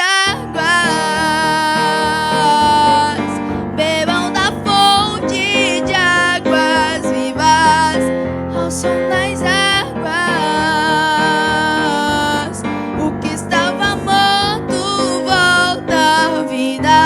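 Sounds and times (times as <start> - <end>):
person singing praise song: 0.0 - 17.0.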